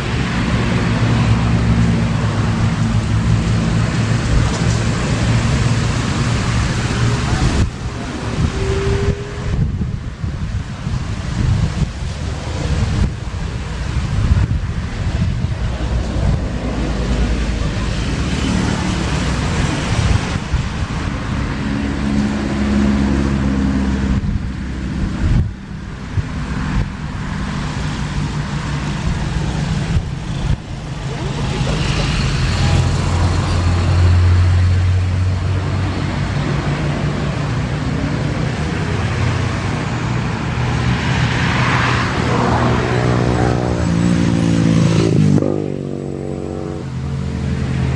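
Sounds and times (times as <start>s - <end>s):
engine hums shifting in pitch: 0.0s - 47.9s
engines rumbling: 0.0s - 47.9s.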